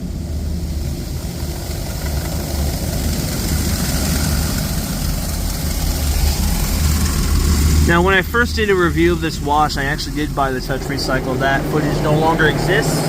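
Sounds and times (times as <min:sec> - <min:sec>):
steady low hum: 0:00.0 - 0:13.0
water jets spraying car: 0:00.0 - 0:13.0.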